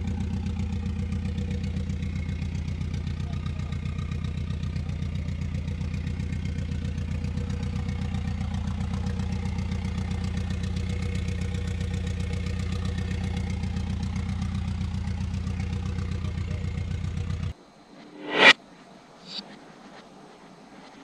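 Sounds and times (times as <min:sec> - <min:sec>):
car engine idling: 0:00.0 - 0:17.6.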